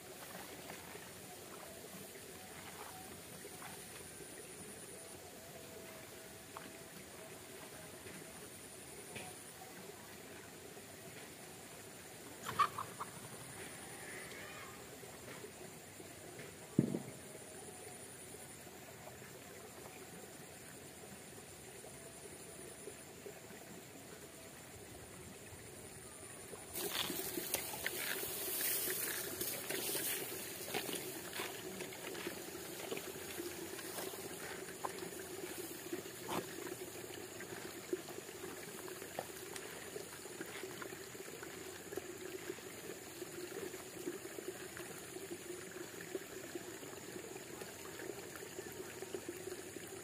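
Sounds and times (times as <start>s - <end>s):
water trickling and babbling: 0.0s - 50.0s.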